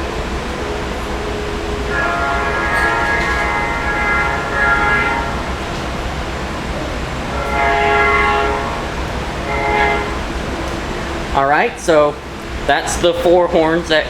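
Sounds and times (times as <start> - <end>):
locomotive air horn chord: 0.0 - 13.5.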